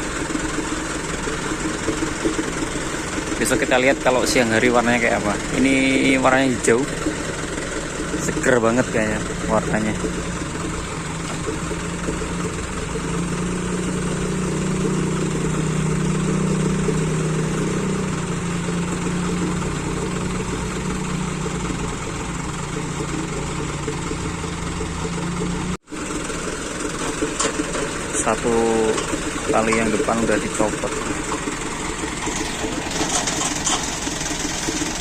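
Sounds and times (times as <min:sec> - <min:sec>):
large vehicle engine idling: 0:00.0 - 0:35.0.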